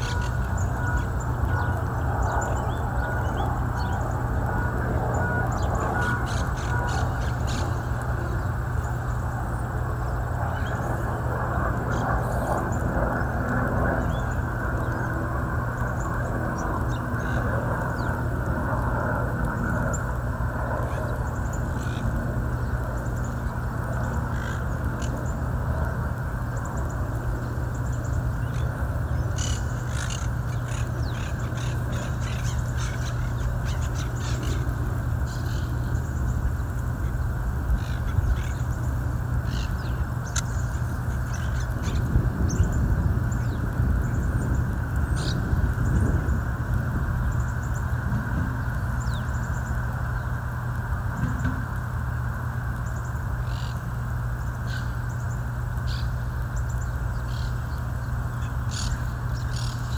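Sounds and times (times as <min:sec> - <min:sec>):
parakeets squawking and chattering: 0:00.0 - 0:18.4, 0:19.4 - 0:47.9, 0:57.1 - 0:59.9
low background rumble: 0:00.0 - 0:59.9.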